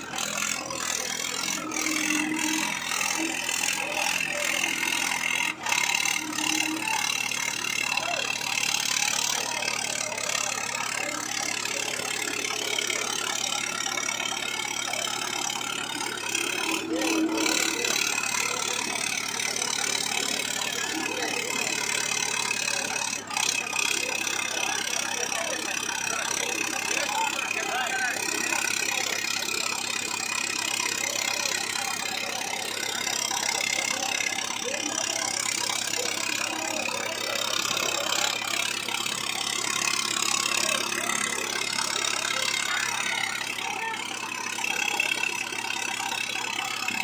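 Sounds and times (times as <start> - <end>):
diesel tractor engines running: 0.0 - 47.0
people's voices: 0.0 - 47.0.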